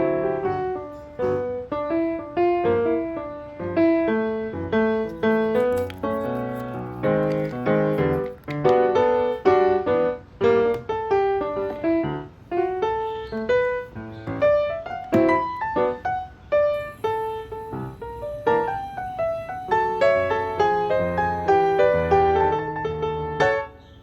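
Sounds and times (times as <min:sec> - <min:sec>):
piano melody: 0:00.0 - 0:24.0.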